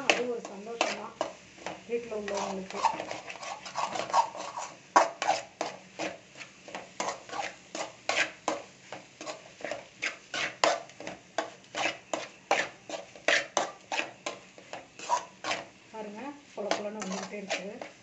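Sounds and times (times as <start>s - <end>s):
metal spoon scraping metal pan: 0.0s - 15.7s, 16.6s - 18.0s.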